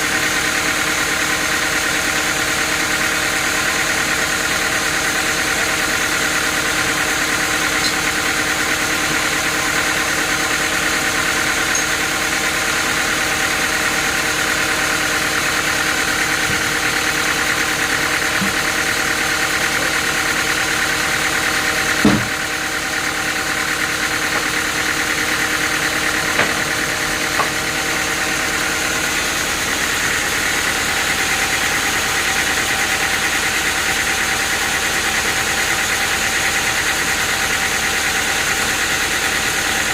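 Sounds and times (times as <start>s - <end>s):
machinery running: 0.0s - 35.0s.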